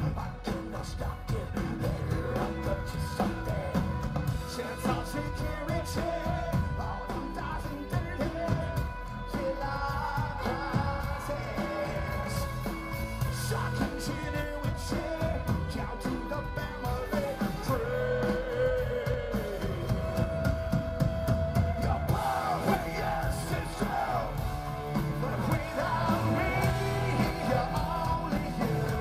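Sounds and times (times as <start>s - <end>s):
live rock band playing: 0.0s - 29.0s
person singing: 0.0s - 29.0s.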